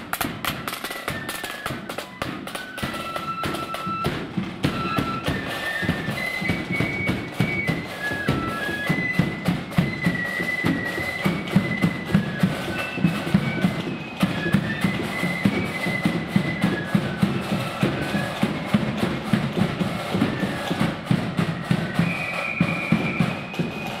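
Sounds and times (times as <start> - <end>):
shrill flute melody: 0.0 - 24.0
snare and bass drum beats: 0.0 - 24.0.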